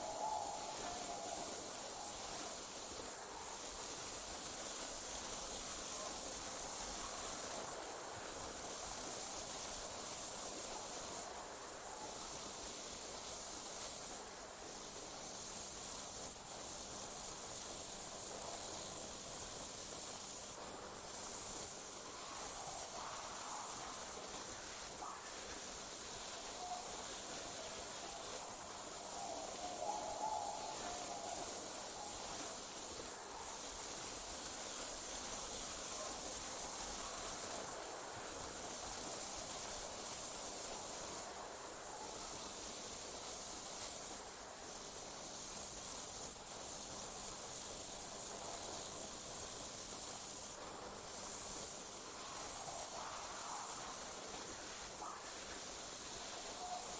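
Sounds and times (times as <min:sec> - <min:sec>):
crickets trilling: 0:00.0 - 0:11.4, 0:12.0 - 0:56.9.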